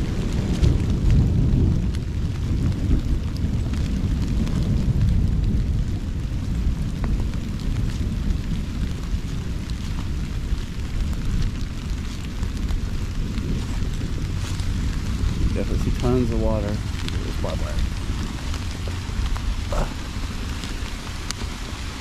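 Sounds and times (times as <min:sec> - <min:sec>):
heavy rain hiss: 0:00.0 - 0:22.0
raindrops ticking on camera: 0:00.0 - 0:22.0
wind buffeting microphone: 0:00.0 - 0:22.0.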